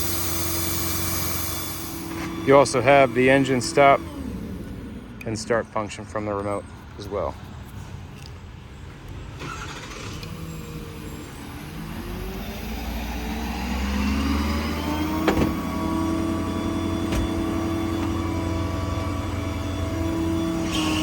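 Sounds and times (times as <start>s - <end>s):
diesel engine revving: 0.0s - 5.6s, 9.4s - 21.0s.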